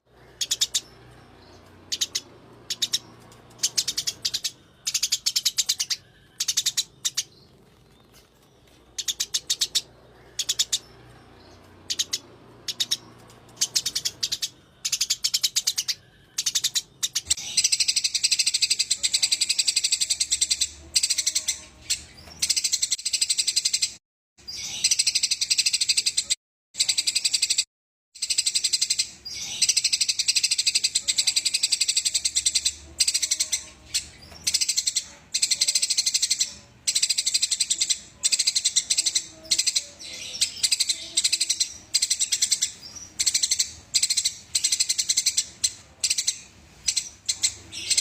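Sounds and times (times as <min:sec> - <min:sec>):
sparrows chattering: 0:00.0 - 0:48.0.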